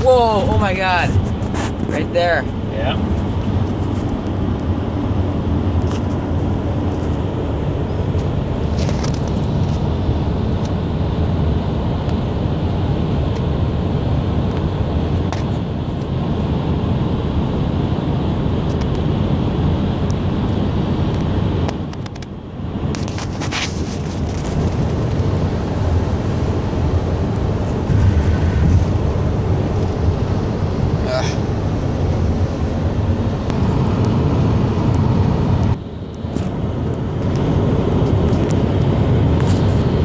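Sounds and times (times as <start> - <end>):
road and engine rumble in car: 0.0 - 40.0.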